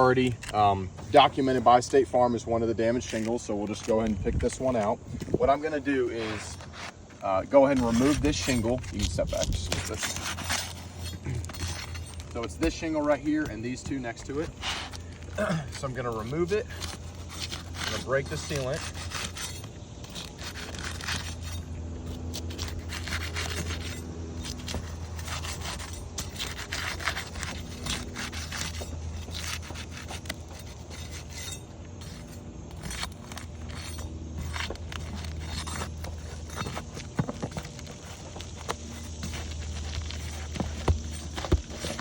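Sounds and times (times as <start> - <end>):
scraping and prying roof shingle: 0.0 - 42.0.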